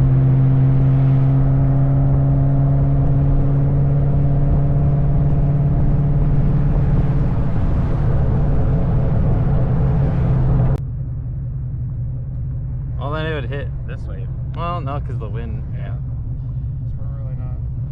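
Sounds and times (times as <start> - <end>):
car engine droning: 0.0 - 17.9
low engine rumble: 0.0 - 17.9.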